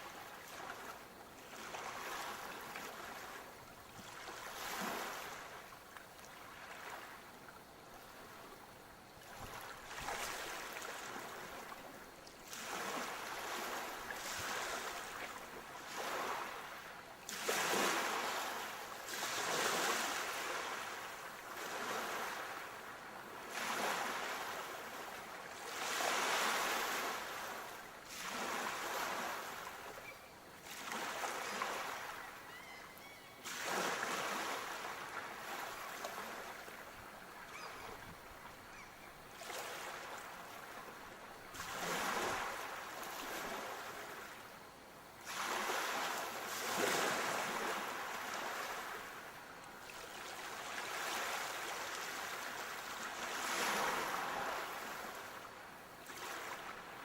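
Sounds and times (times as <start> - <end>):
sea waves breaking: 0.0 - 5.7, 9.2 - 30.0, 30.6 - 32.6, 33.4 - 44.4, 45.2 - 55.4, 56.0 - 57.0.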